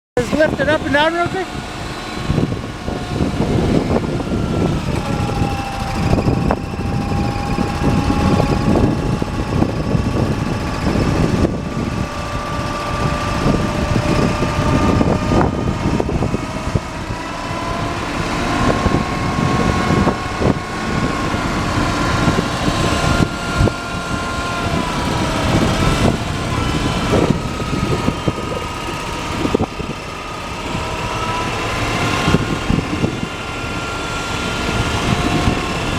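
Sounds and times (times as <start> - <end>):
heavy truck engine running: 0.2 - 35.9
hydraulic whine: 0.2 - 35.9.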